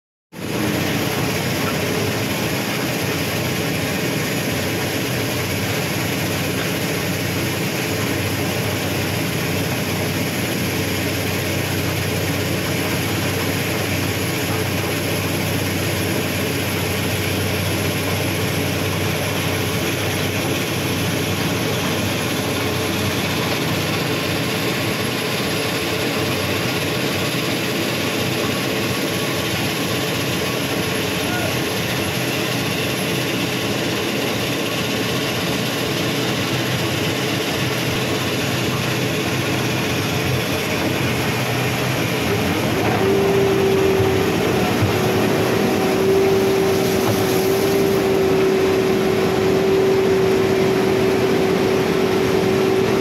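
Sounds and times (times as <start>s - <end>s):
heavy diesel engine droning: 0.4s - 53.0s.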